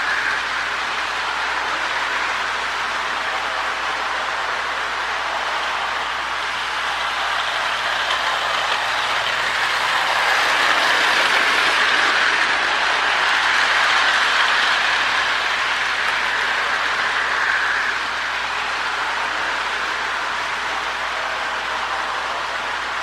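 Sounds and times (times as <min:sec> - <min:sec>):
toy train motor whirring: 0:00.0 - 0:23.0
wheels rattling on rails: 0:00.0 - 0:23.0.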